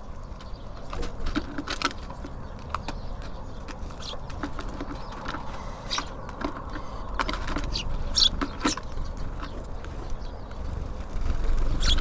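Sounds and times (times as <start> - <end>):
beaks pecking at seed: 0.3 - 12.0.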